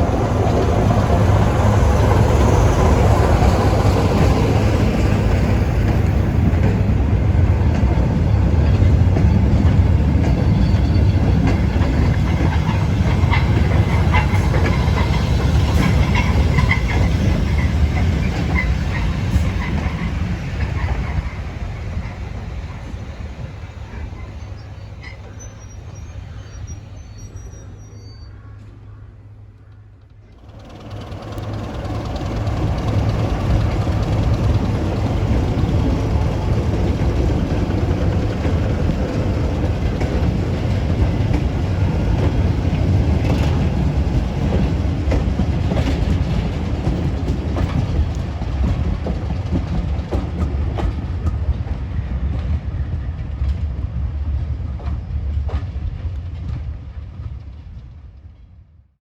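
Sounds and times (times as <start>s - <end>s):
wheels clicking over rail joints: 0.0s - 25.6s, 29.8s - 52.6s
diesel train engine passing: 0.0s - 58.6s.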